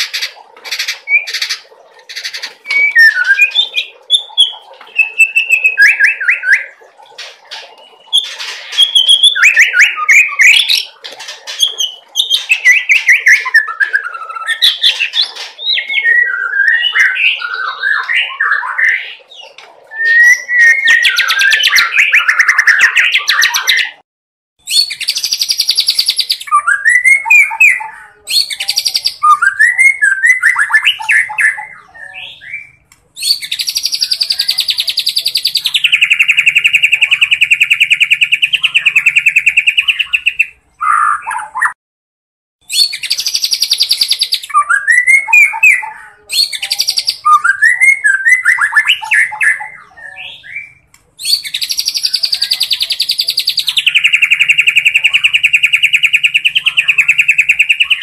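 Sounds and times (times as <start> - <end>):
bird singing whistled song: 2.6 - 6.7, 7.7 - 10.9, 11.6 - 15.1, 15.7 - 19.2, 19.9 - 24.0, 24.6 - 41.8, 42.6 - 58.0.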